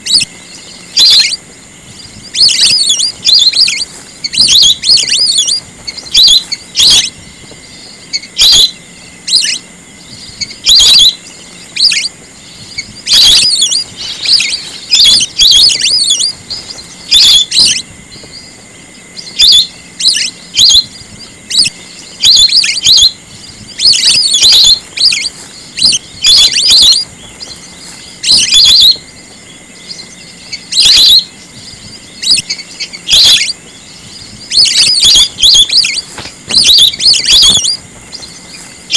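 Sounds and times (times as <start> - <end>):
ducks whistling calls: 0.0 - 38.9.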